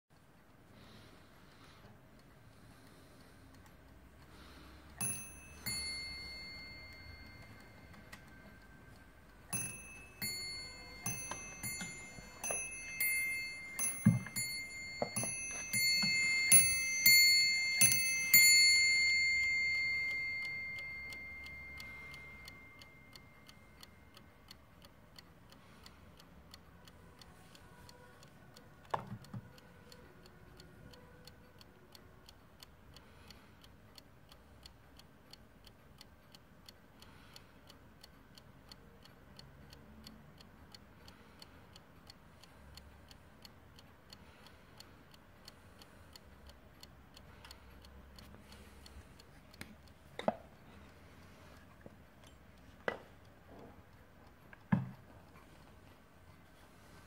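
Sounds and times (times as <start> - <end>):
clock ticking: 0.1 - 57.0.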